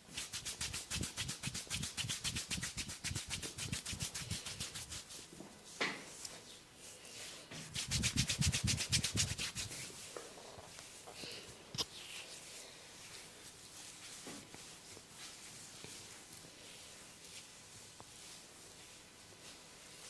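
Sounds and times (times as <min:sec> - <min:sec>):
scratching on hair and scalp: 0:00.0 - 0:11.2, 0:11.8 - 0:20.0.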